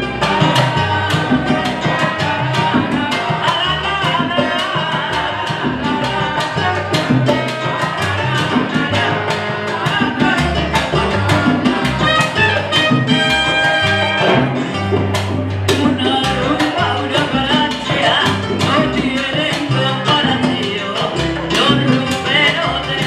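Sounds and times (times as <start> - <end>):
salsa band playing: 0.0 - 23.0.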